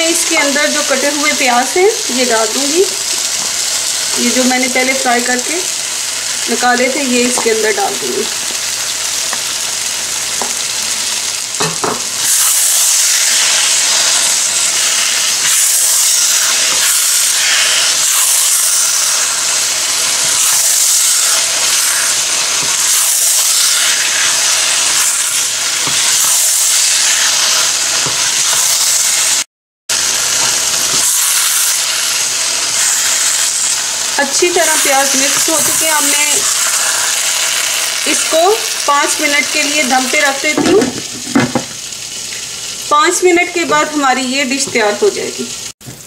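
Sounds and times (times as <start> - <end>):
food sizzling in a pan: 0.0 - 46.0.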